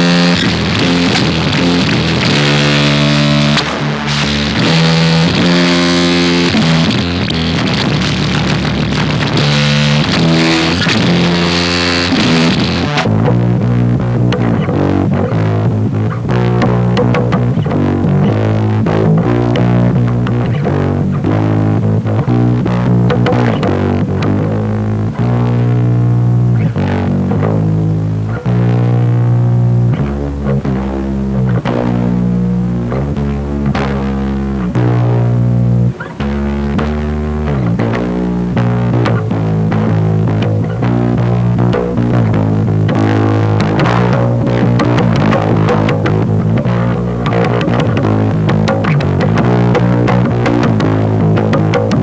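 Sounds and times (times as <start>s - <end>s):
distorted guitar chords: 0.0s - 52.0s.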